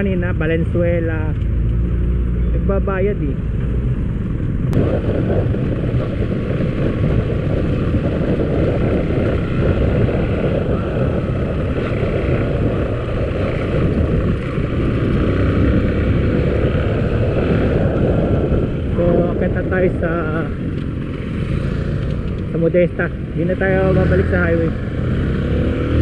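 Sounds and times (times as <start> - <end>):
motorcycle engine and road noise: 0.0 - 26.0
wind on microphone: 3.7 - 26.0.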